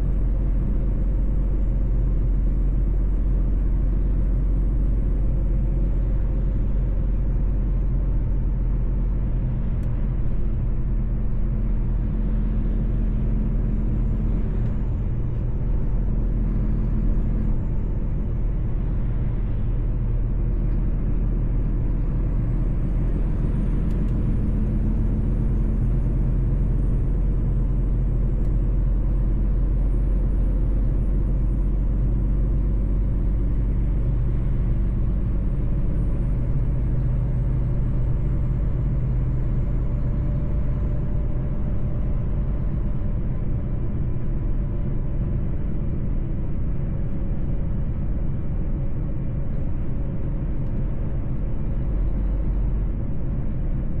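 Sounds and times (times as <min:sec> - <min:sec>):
diesel truck engine and road rumble: 0:00.0 - 0:54.0.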